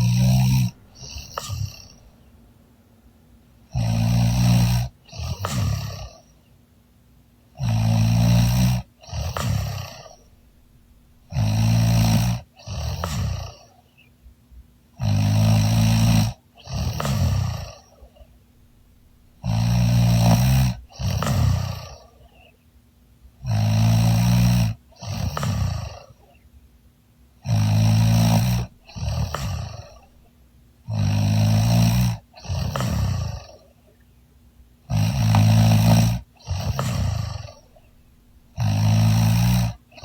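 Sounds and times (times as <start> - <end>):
woman snoring heavily: 0.0 - 2.2, 3.7 - 6.3, 7.6 - 13.8, 15.0 - 22.5, 23.4 - 26.3, 27.4 - 30.3, 30.9 - 33.8, 34.9 - 40.0.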